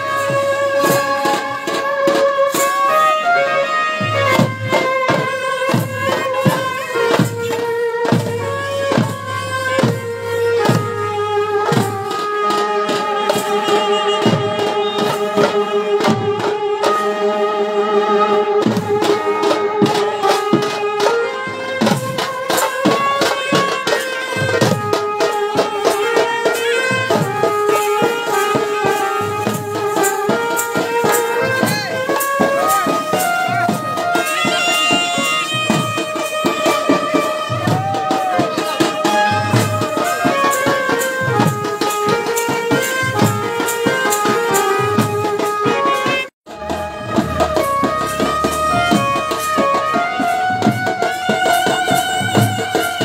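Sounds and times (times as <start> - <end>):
dhol drums beating: 0.0 - 53.0
wind instrument melody: 0.0 - 53.0.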